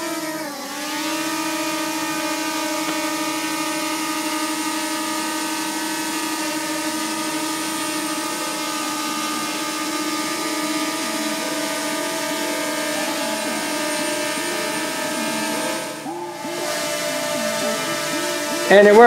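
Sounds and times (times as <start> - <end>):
drone propeller whine: 0.0 - 19.0.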